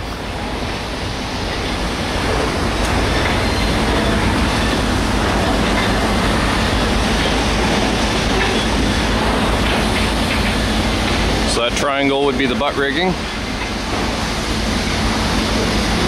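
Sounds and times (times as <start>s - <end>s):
log yarder winch rumble: 0.0s - 16.0s.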